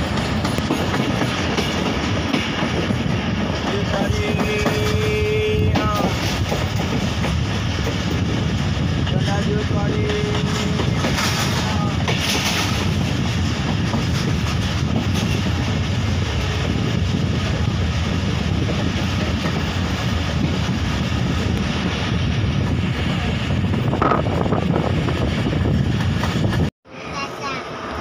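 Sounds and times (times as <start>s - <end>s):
wind blowing on microphone: 0.0s - 26.7s
train wheels rumbling on rail: 0.0s - 28.0s.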